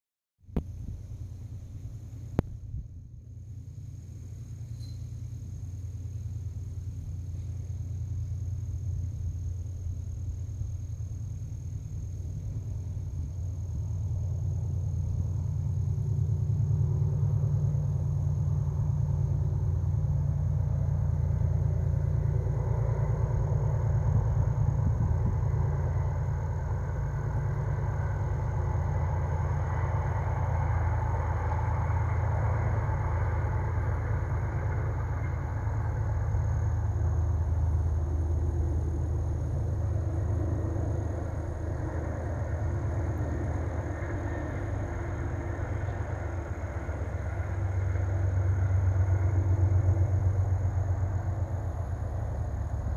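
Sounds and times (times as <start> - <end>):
passenger train passing: 3.9 - 52.9.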